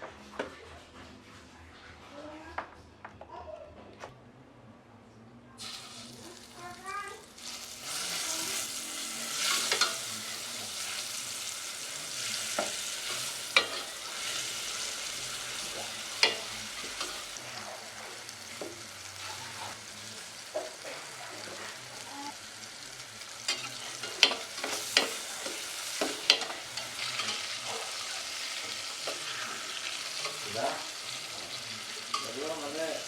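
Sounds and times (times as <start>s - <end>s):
food sizzling in a pan: 5.6s - 33.0s.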